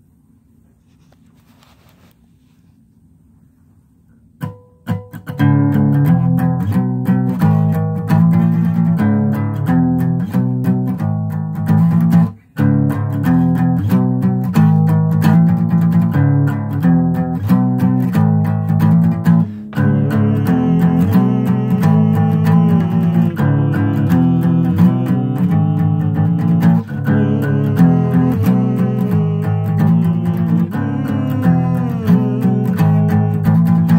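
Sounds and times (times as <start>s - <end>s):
guitar strumming chords: 4.4s - 33.9s.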